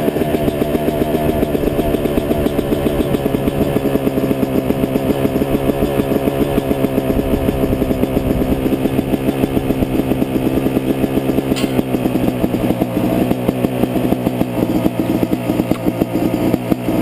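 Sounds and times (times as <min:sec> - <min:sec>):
dirt bike idling: 0:00.0 - 0:17.0.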